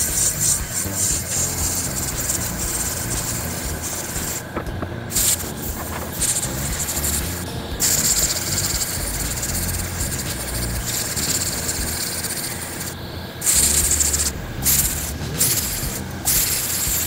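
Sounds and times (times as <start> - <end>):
air spray gun hissing: 0.0 - 17.0
low hum: 0.0 - 17.0.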